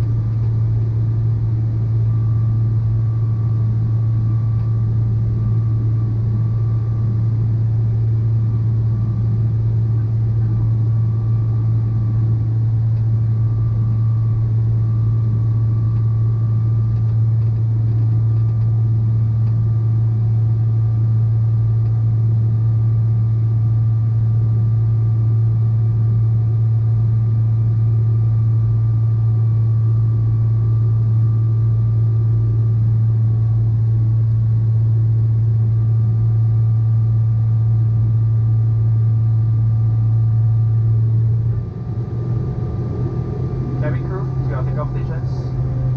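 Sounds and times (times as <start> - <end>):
faint steady engine whine: 0.0 - 45.9
jet engines deep hum: 0.0 - 45.9.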